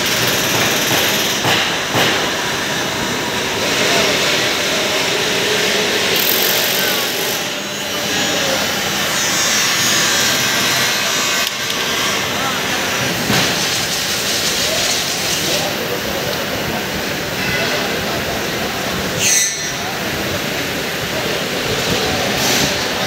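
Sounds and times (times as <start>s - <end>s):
loud workshop machinery: 0.0s - 23.0s.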